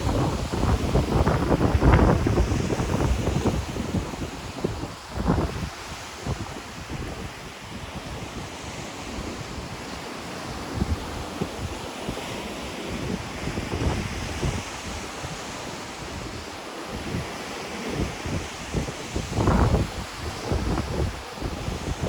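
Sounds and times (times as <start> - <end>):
ocean surf washing ashore: 0.0 - 22.0
wind buffeting microphone: 0.0 - 22.0.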